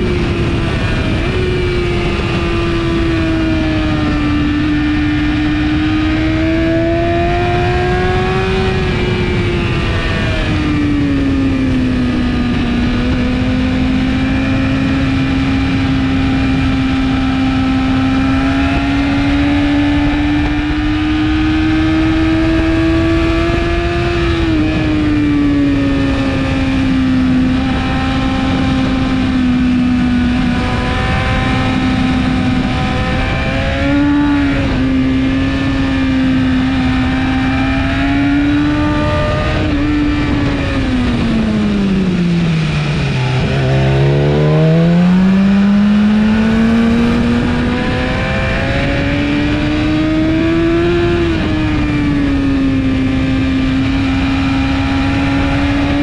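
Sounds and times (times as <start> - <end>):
motorcycle engine revving high: 0.0 - 56.0
wind rushing: 5.6 - 55.8.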